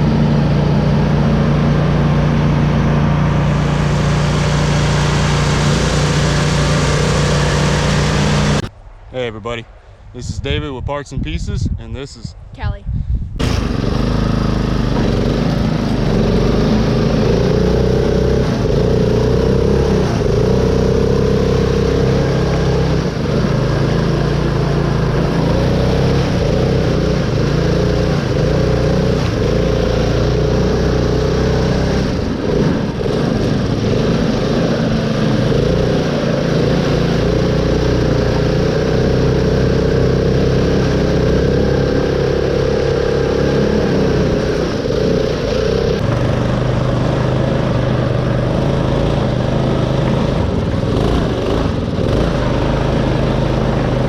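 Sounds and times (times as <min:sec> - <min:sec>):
lawn mower engine under load: 0:00.0 - 0:08.7, 0:13.4 - 0:54.0.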